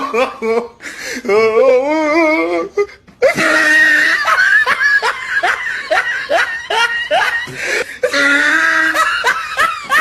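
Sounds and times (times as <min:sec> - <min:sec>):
person laughing heartily: 0:00.0 - 0:10.0.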